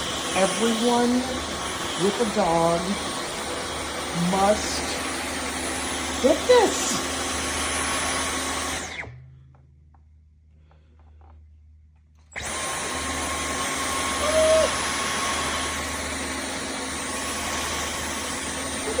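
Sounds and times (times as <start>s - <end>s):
vacuum cleaner whining: 0.0s - 9.2s, 12.3s - 19.0s.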